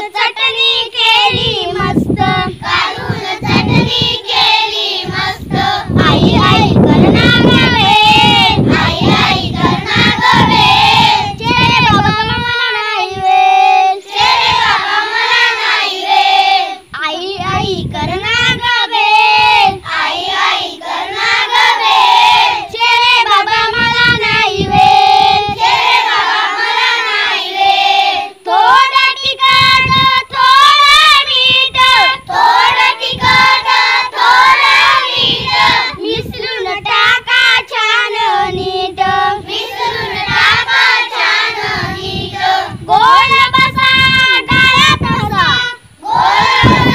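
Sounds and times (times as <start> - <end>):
children singing in chorus: 0.0 - 46.9.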